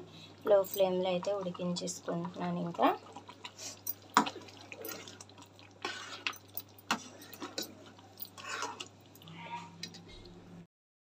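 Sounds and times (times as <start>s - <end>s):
food bubbling in a pan: 0.0s - 9.2s
spatula stirring: 0.4s - 9.3s.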